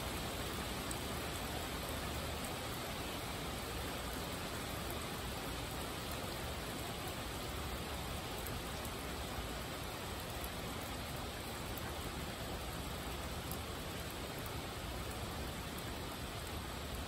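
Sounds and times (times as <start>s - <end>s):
steady rainfall: 0.0s - 17.0s.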